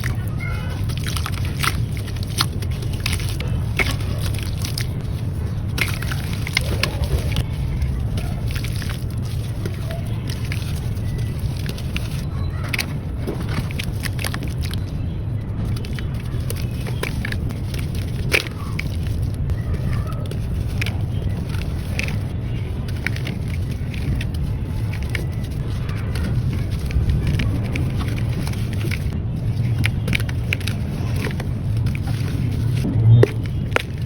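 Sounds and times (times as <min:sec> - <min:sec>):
steady low rumble: 0:00.0 - 0:34.0
wet sand crunching: 0:00.0 - 0:34.0.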